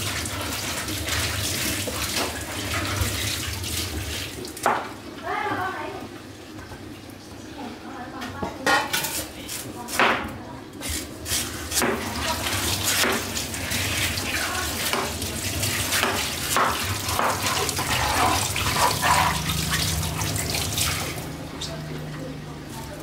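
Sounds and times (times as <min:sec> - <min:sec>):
tap water running into a sink: 0:00.0 - 0:07.5, 0:10.8 - 0:23.0.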